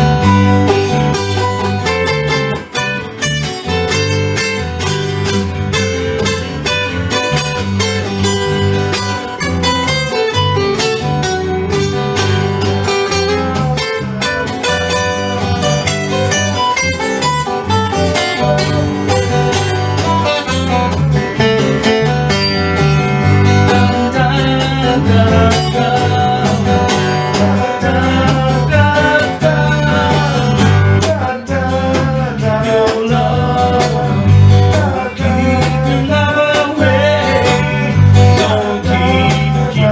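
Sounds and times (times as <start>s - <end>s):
acoustic guitar picking and strumming: 0.0s - 39.9s
steady bass line: 0.0s - 39.9s.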